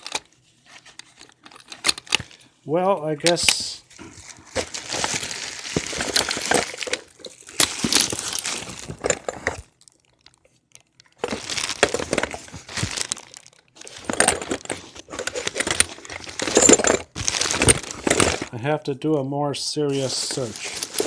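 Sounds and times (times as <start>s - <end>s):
crinkling and rustling: 0.0s - 2.5s, 3.2s - 18.6s, 19.9s - 21.0s.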